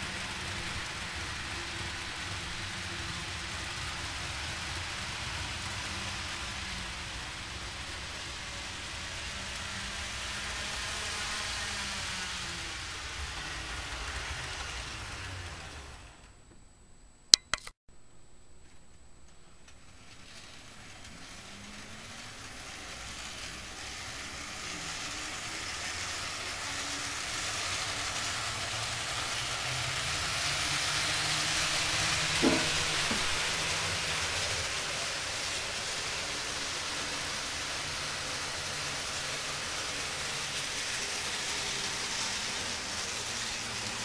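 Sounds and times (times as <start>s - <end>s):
model train rolling: 0.0s - 16.4s, 19.2s - 44.0s.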